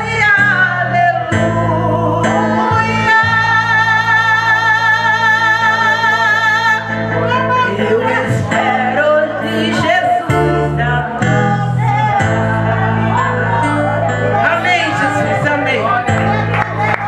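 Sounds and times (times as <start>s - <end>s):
woman singing gospel song: 0.0s - 13.2s, 14.3s - 16.0s
electronic keyboard chords: 0.0s - 17.0s.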